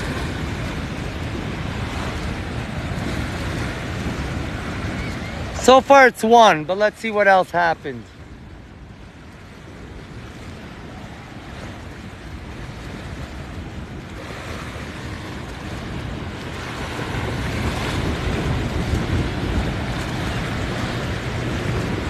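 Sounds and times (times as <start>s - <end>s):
surf rushing: 0.0s - 22.0s
wind buffeting microphone: 0.0s - 22.0s.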